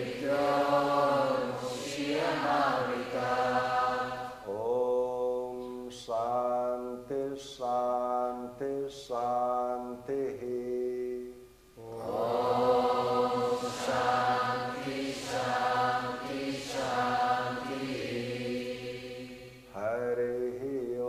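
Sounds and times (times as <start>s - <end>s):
mantra chanting: 0.0s - 21.0s.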